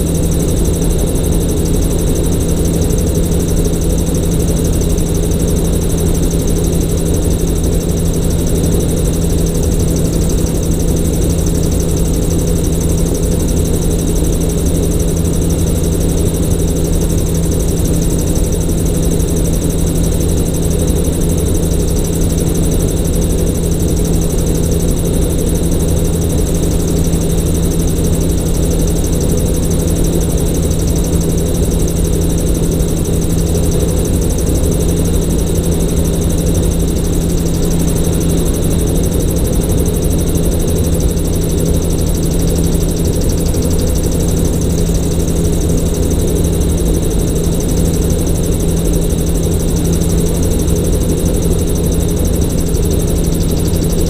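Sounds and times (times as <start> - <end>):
gyrocopter engine and propeller: 0.0 - 54.0.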